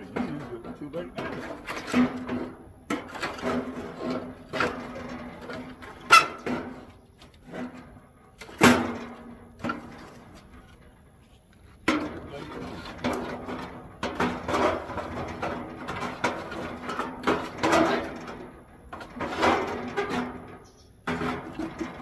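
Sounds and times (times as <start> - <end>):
stick scraping burning coals: 0.0 - 22.0.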